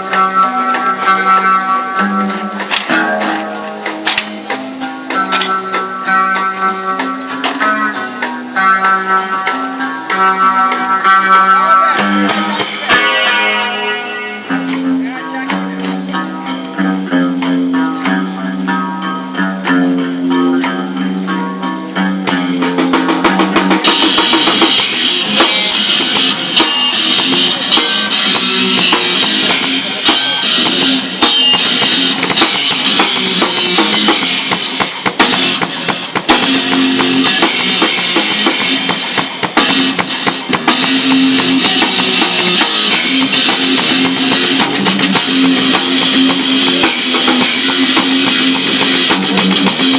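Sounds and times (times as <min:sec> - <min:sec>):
drum kit with cymbals: 0:00.0 - 0:49.9
guitar riff: 0:00.0 - 0:49.9
rock band playing: 0:00.0 - 0:49.9.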